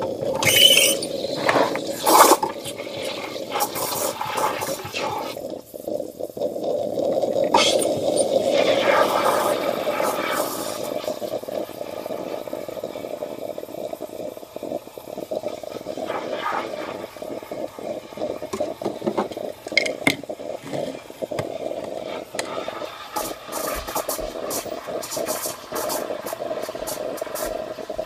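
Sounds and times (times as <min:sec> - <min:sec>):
coffee maker bubbling: 0:00.0 - 0:28.0.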